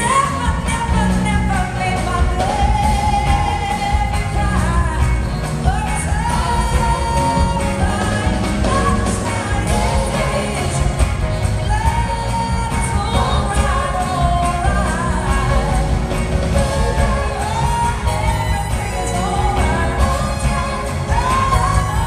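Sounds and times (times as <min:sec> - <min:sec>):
drum kit: 0:00.0 - 0:22.0
electric guitar: 0:00.0 - 0:22.0
woman singing into microphone: 0:00.0 - 0:22.0.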